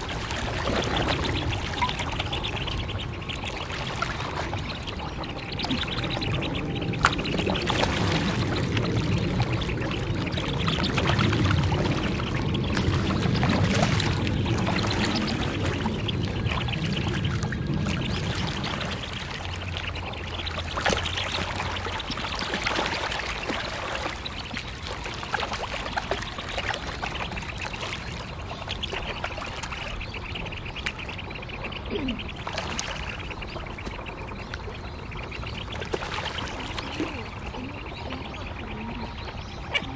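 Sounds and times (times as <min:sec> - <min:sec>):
ducks splashing in water: 0:00.0 - 0:39.9.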